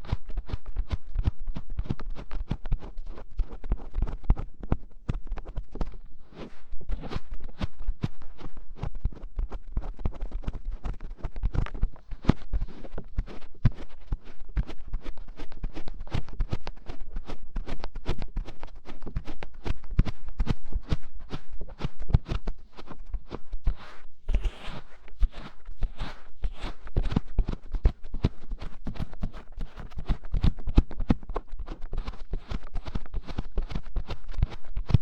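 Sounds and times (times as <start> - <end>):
fingers scratching and tapping microphone: 0.0 - 35.0.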